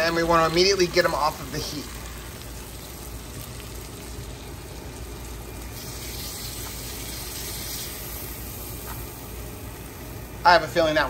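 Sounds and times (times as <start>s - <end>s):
hot fat sizzling in skillet: 0.0s - 11.0s
low steady hum: 0.0s - 11.0s.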